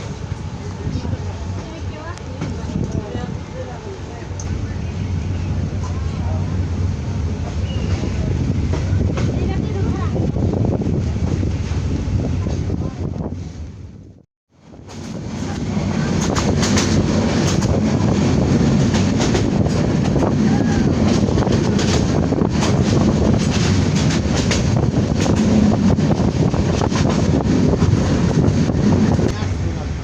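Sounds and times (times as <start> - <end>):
train clatter: 0.0 - 13.4, 14.8 - 30.0
train wheels rumbling on rails: 0.0 - 30.0
wind on microphone: 4.4 - 30.0.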